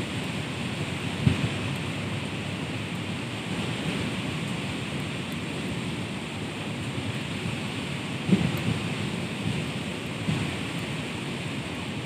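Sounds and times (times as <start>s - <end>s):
strong wind through trees: 0.0s - 12.0s.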